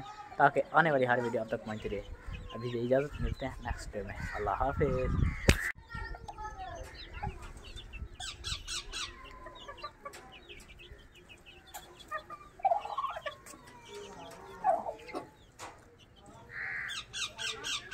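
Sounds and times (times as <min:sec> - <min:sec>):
chickens clucking: 0:00.0 - 0:17.9.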